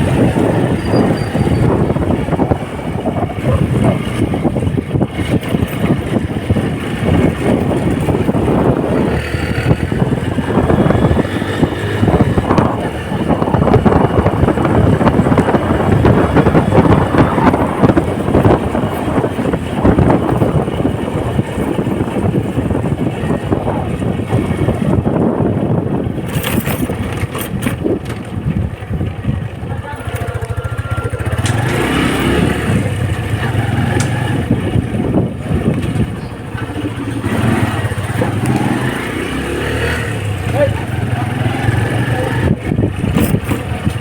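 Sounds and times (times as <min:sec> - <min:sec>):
motorcycle engine running: 0:00.0 - 0:44.0
wind buffeting microphone: 0:00.0 - 0:44.0.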